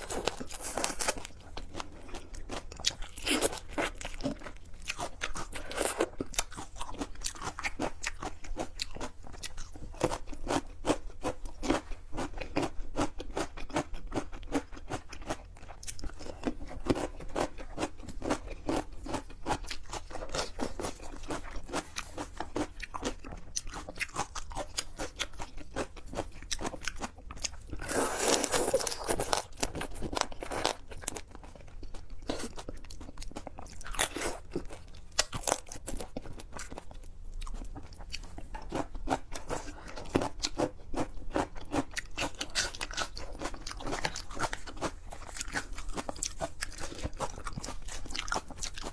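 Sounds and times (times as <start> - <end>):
person crunching and chewing food: 0.0 - 48.9.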